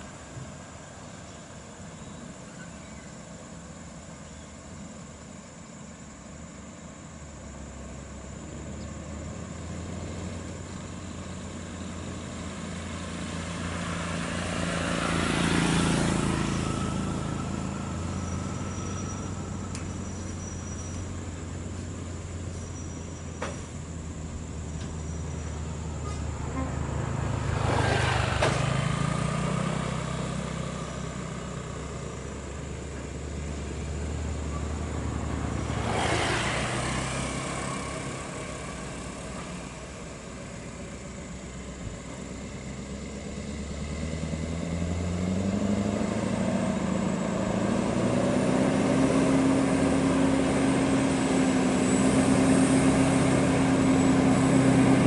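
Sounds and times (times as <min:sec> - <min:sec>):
passing traffic whooshes: 0:07.3 - 0:55.0
truck diesel engine running: 0:07.7 - 0:35.8, 0:36.6 - 0:55.0.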